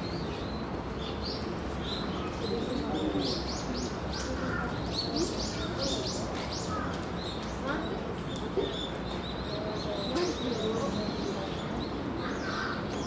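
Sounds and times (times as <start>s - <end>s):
low background noise: 0.0s - 13.0s
small birds chirping: 0.0s - 13.0s.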